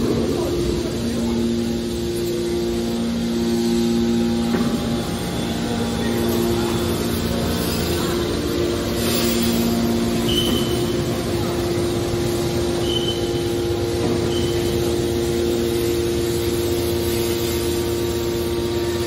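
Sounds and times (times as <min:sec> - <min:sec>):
humming motor tones: 0:00.0 - 0:19.0
machinery drone: 0:00.0 - 0:19.0.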